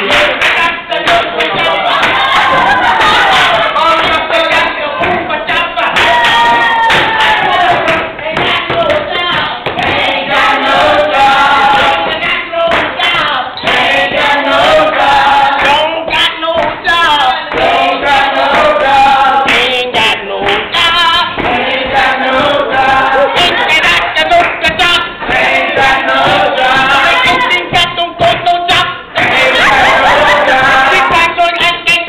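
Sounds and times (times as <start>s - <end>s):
group of people singing: 0.0s - 32.0s.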